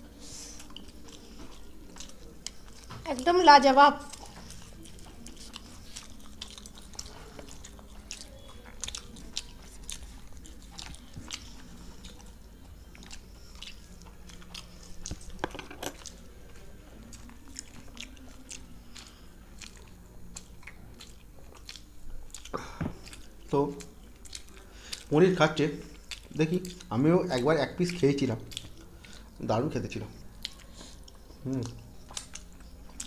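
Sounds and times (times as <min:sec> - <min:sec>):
people chewing: 0:00.0 - 0:33.0.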